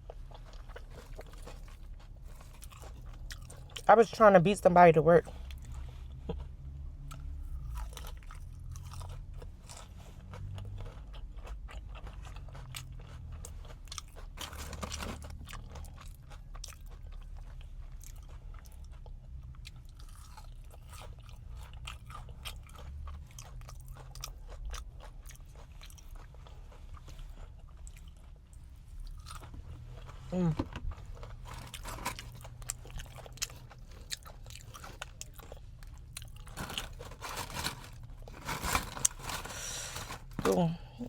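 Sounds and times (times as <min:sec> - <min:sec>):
person chewing crispy food: 0:00.0 - 0:04.2, 0:05.2 - 0:41.0.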